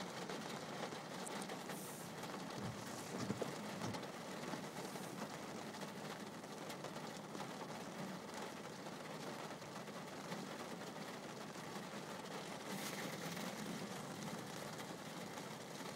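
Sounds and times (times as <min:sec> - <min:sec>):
rain hissing: 0:00.0 - 0:15.9
raindrops ticking on glass: 0:00.0 - 0:15.9.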